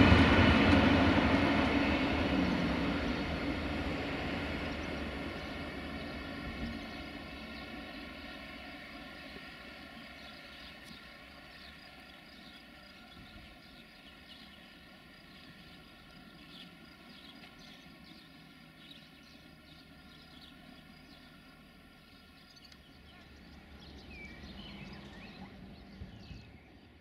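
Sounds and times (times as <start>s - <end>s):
small birds chirping: 4.6s - 27.0s.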